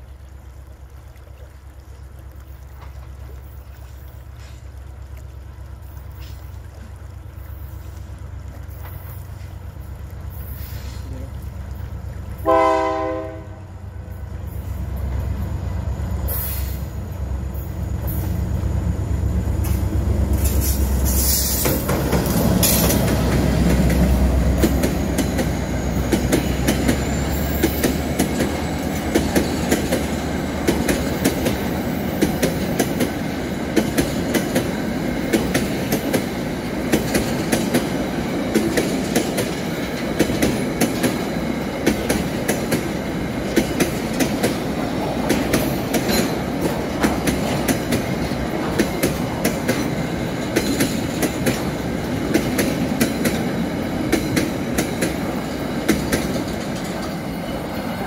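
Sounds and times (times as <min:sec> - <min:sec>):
diesel locomotive engine rumble: 0:00.0 - 0:58.0
train cars rolling rumble: 0:00.0 - 0:58.0
wheels clickety-clack on rail joints: 0:00.0 - 0:58.0.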